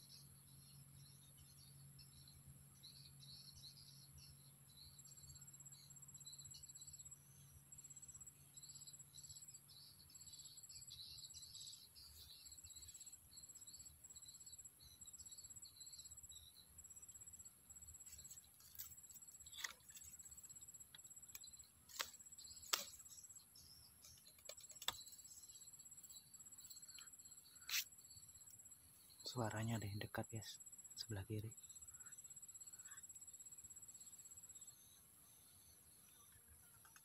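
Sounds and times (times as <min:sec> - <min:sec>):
insect buzz: 0:00.0 - 0:37.0
insects chirping in pulses: 0:00.0 - 0:37.0.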